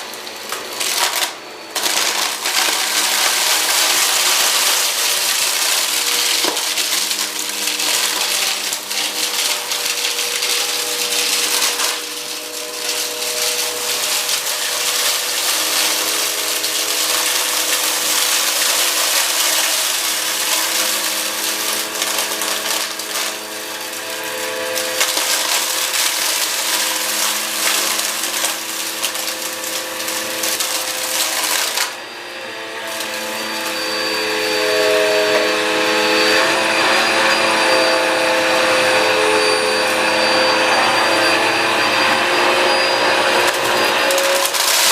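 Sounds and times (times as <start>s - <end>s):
debris rattling through vacuum: 0.0s - 32.0s, 32.7s - 44.9s
vacuum cleaner motor whine: 0.0s - 44.9s.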